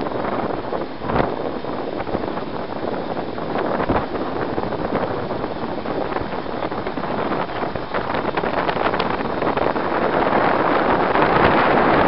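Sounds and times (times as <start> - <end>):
vehicle engine and road noise: 0.0 - 12.0
wind buffeting microphone: 0.0 - 12.0.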